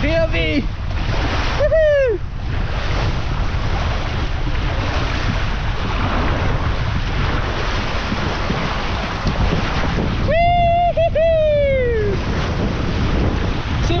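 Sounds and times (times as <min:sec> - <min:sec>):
wind buffeting microphone: 0:00.0 - 0:14.0
water rushing along tube slide: 0:00.7 - 0:14.0.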